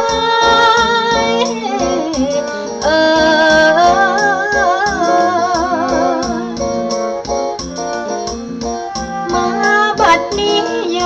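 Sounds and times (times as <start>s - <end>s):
person singing with vibrato: 0.0s - 7.0s, 7.8s - 11.0s
plucked strings and keyboard: 0.0s - 11.0s.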